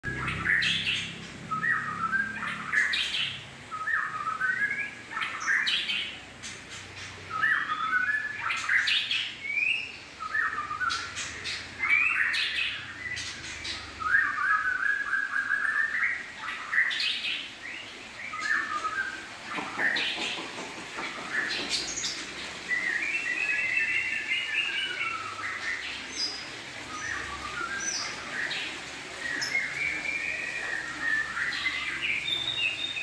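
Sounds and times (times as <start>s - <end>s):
bird chirping: 0.0s - 33.0s.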